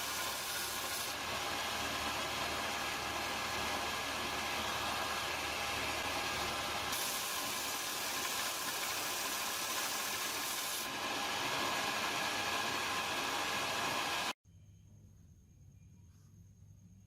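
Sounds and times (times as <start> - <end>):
power tool grinding a knife: 0.0 - 14.4.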